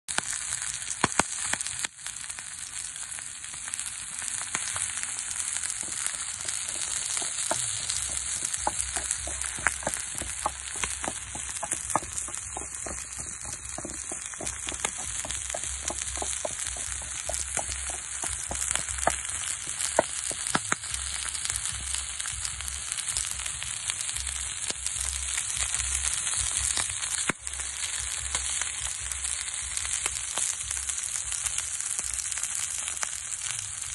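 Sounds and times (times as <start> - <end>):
eels sizzling with pops: 0.1 - 33.9.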